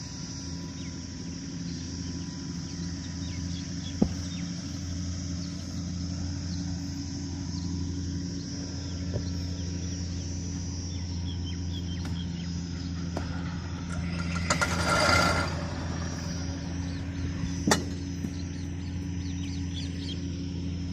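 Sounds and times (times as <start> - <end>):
engine idling: 0.0 - 20.9
noisy swell with whine: 0.0 - 20.9.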